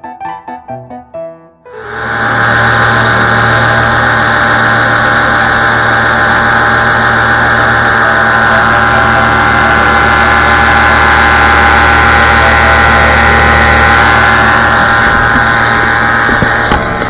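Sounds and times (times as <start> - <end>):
paramotor engine drone: 1.7 - 17.0.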